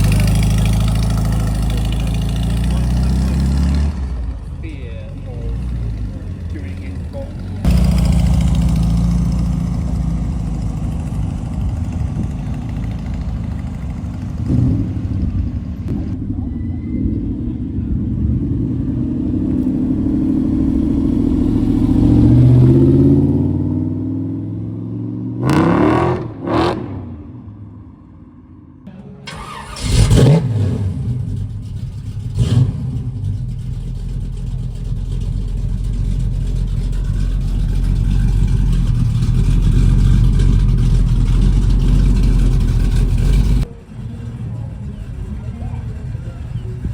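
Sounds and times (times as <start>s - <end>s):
loud engine revs: 0.0s - 4.4s, 5.2s - 15.4s, 17.5s - 27.2s, 29.3s - 43.7s
car engine accelerating: 0.0s - 27.8s, 29.2s - 46.9s
car engines running: 0.0s - 46.9s.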